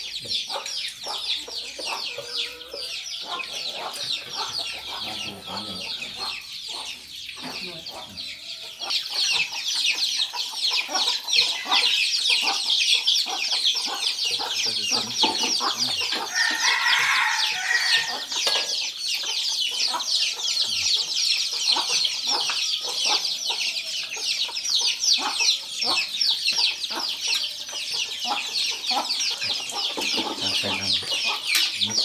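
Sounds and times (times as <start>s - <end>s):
chickens cheeping and clucking: 0.0s - 32.0s.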